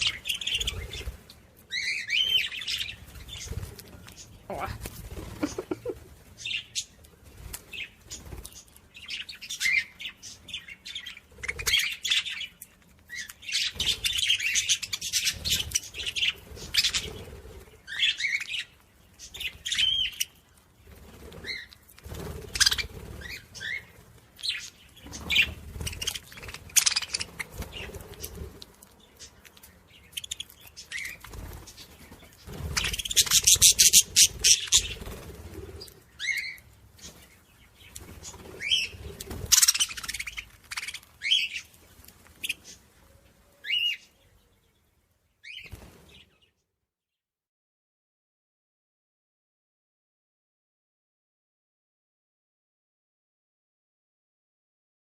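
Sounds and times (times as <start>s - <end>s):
small birds chirping: 0.0s - 46.8s.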